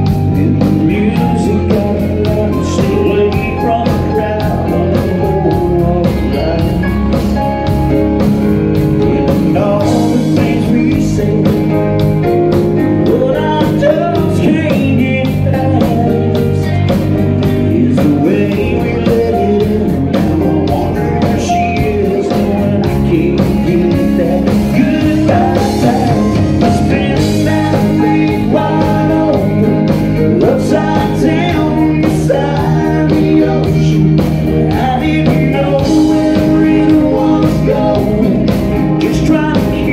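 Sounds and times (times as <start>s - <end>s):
man singing into microphone: 0.0s - 7.8s, 9.0s - 39.9s
bass guitar: 0.0s - 39.9s
drum kit beat: 0.0s - 39.9s
electric guitar: 0.0s - 39.9s.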